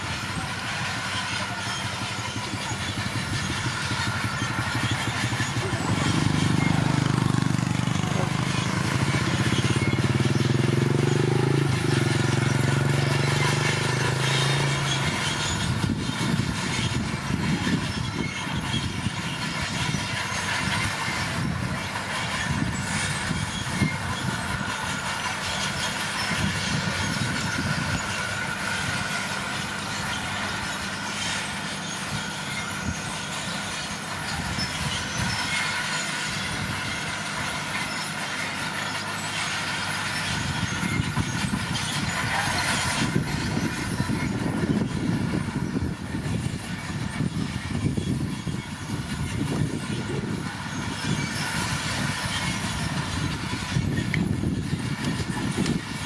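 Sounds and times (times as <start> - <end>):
diesel engine humming: 0.0 - 56.0
steel tracks clattering: 0.0 - 56.0.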